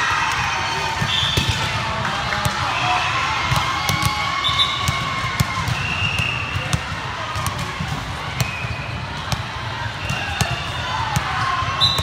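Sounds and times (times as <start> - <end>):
hubbub of voices: 0.0 - 12.0
volleyballs smacking and bouncing: 0.3 - 12.0.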